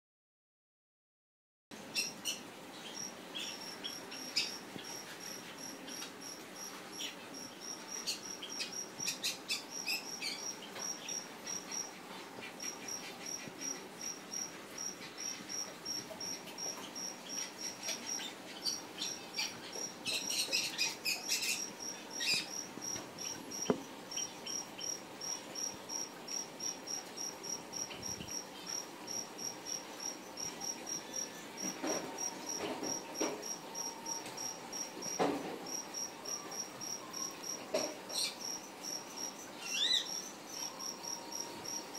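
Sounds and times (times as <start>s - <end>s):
cricket chirping: 2.0s - 12.0s, 12.6s - 41.9s.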